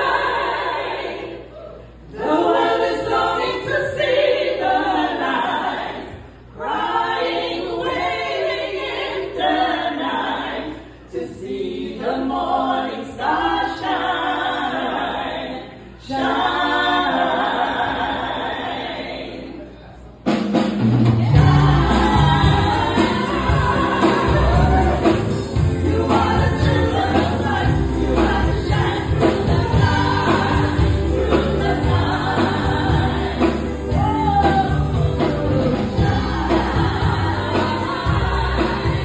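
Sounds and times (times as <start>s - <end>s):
female vocal quartet singing: 0.0s - 20.0s, 21.1s - 39.0s.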